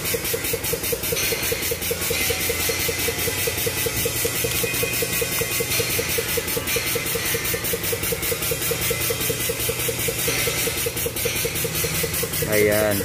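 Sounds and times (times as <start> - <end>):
pulsing engine running: 0.0 - 13.0.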